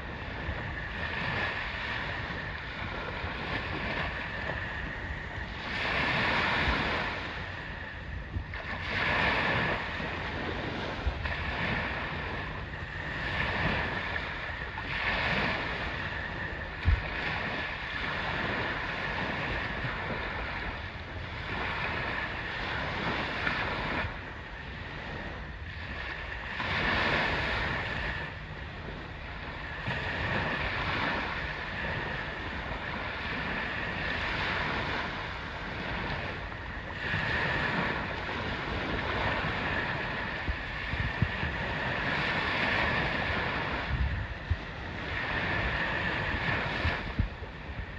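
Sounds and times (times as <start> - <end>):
sea waves washing in: 0.0 - 47.9
wind buffeting microphone: 0.0 - 47.9.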